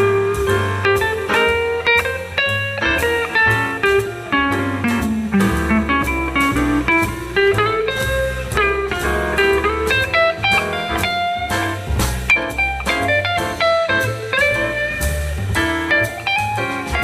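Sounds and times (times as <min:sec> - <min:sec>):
plucked blues guitar: 0:00.0 - 0:17.0
steady bass line: 0:00.0 - 0:17.0.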